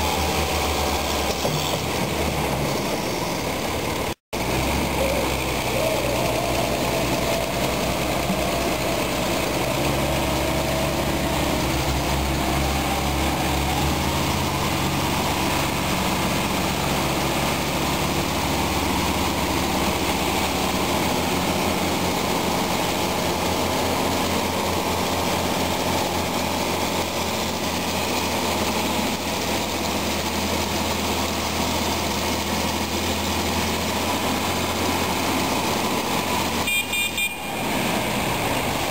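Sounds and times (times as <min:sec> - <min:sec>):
tractor diesel engines running: 0:00.0 - 0:38.9.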